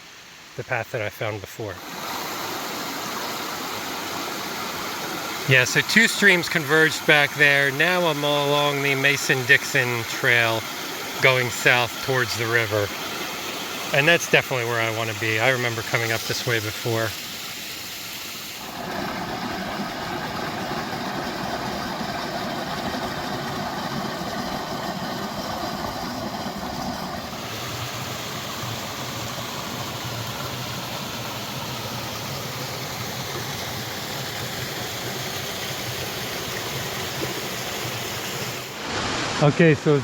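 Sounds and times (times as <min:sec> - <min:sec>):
rushing water and falls: 0:00.0 - 0:40.0.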